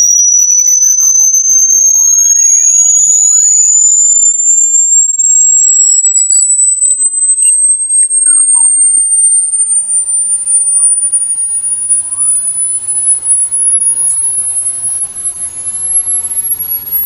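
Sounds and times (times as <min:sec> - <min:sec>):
faint sweeping chirps: 0:00.0 - 0:17.0
very high electronic tone: 0:00.0 - 0:17.0.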